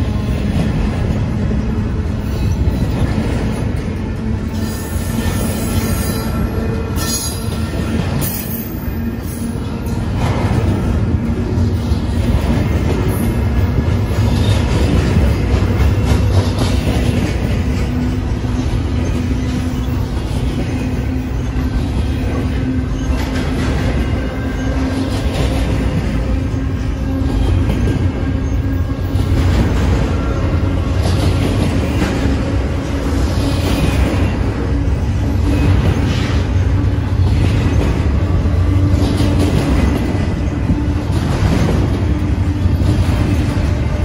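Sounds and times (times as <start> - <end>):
freight train rumbling on rails: 0.0 - 44.0.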